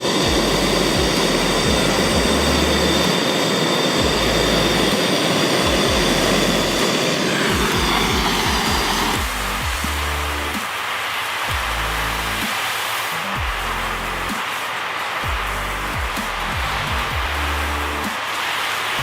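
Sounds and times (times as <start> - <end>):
electronic music with kick drum: 0.0 - 19.0
loud steady rushing noise: 0.0 - 19.0.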